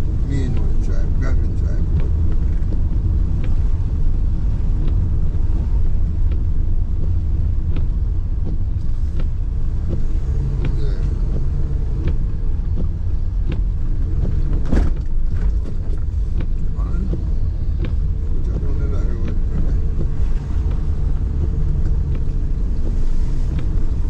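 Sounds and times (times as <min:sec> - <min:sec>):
car engine and road rumble: 0:00.0 - 0:24.0
light ticks: 0:00.0 - 0:24.0.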